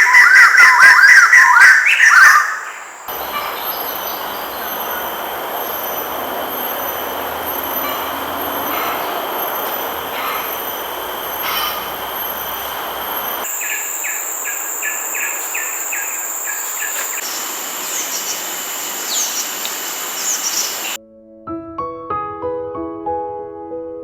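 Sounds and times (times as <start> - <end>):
falling bird-like chirps: 0.0 - 12.6, 13.2 - 21.0
short evenly spaced calls: 0.0 - 21.0
loud insect drone: 0.1 - 21.0.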